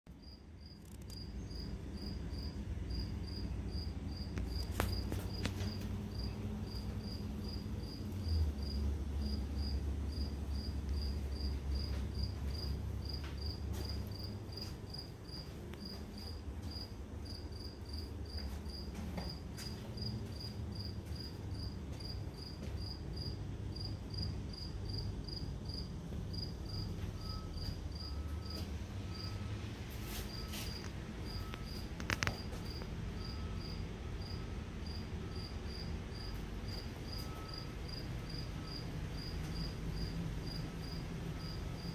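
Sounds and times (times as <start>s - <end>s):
cricket chirping: 0.2s - 41.9s.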